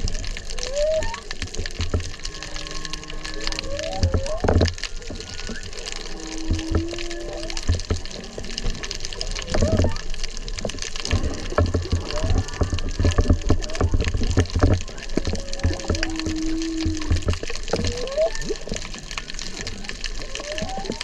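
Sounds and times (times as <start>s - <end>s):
rush of water: 0.0s - 21.0s
underwater crackling: 0.0s - 21.0s
whale song moans and whoops: 0.1s - 10.2s, 11.2s - 21.0s.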